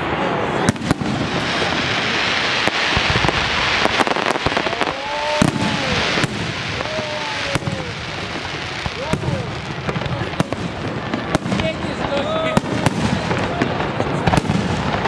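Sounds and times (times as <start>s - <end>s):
crackle of bursting fireworks: 0.0s - 15.0s.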